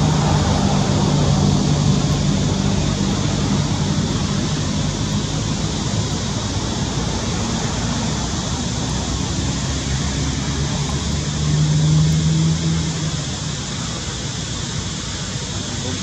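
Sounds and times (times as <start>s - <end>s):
low hum: 0.0s - 16.0s
rushing background noise: 0.0s - 16.0s.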